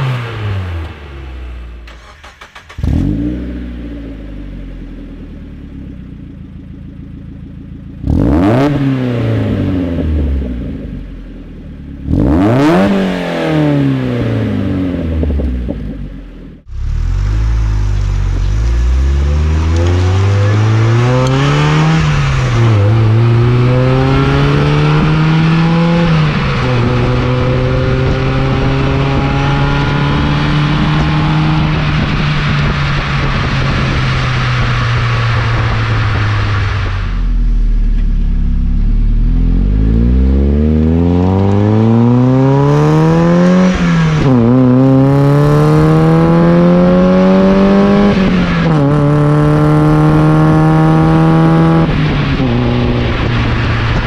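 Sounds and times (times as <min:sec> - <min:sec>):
car engine revving through gears: 0:00.0 - 0:05.9, 0:08.0 - 0:11.1, 0:12.0 - 0:54.0.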